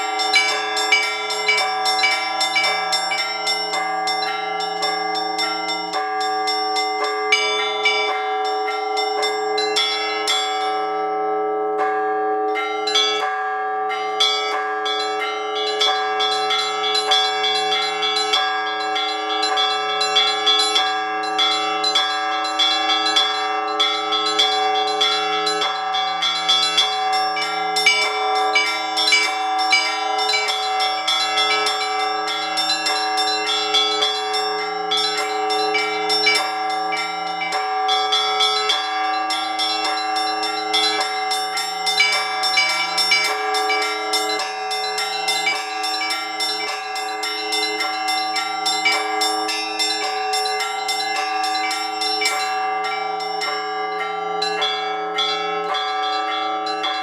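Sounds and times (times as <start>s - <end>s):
small bells struck quickly: 0.0s - 10.8s, 12.6s - 57.0s
larger bells ringing: 0.0s - 57.0s
low bell: 0.0s - 57.0s.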